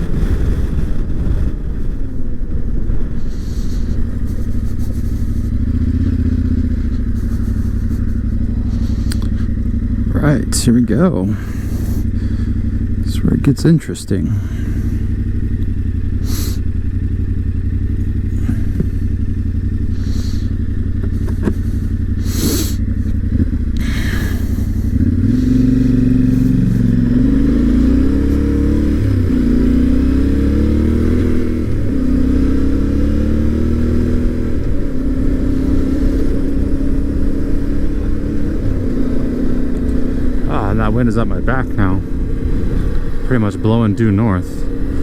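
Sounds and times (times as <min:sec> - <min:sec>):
motorcycle engine accelerating: 0:00.0 - 0:45.0.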